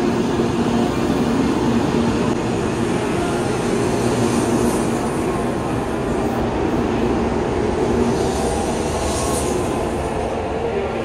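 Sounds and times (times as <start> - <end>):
train rushing and rumbling past: 0.0 - 11.0.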